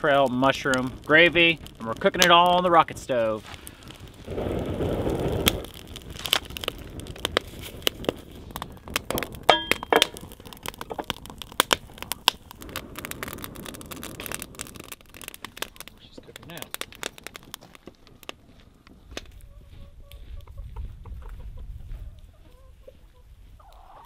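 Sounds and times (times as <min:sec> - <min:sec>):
wood fire crackling and popping: 0:00.0 - 0:19.5.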